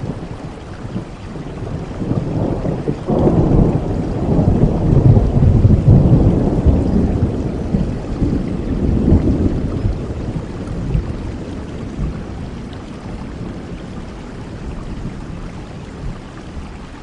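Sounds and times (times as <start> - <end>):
rolling thunder: 0.0 - 16.7
steady rain: 0.0 - 17.0.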